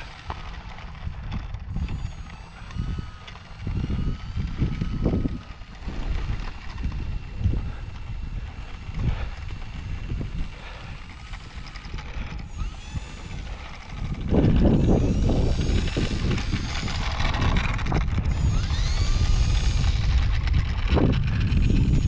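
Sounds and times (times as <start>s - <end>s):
electric motor whine: 0.0s - 22.0s
wind buffeting microphone: 0.0s - 22.0s.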